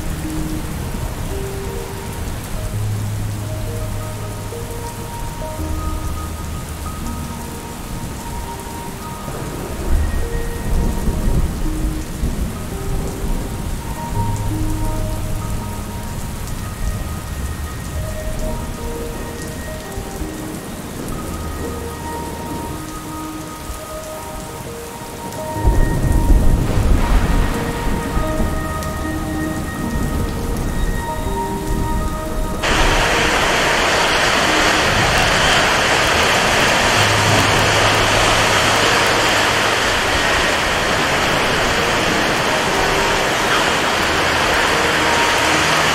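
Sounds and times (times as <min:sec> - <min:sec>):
heavy rain hiss: 0:00.0 - 0:45.9
rain falling: 0:00.0 - 0:45.9
thunder rumbling: 0:00.0 - 0:45.9.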